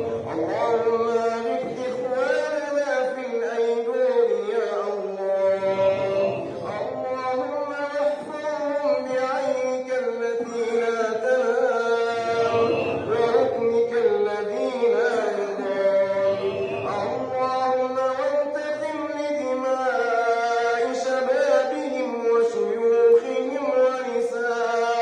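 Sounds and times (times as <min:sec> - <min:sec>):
person chanting a melody: 0:00.0 - 0:25.0.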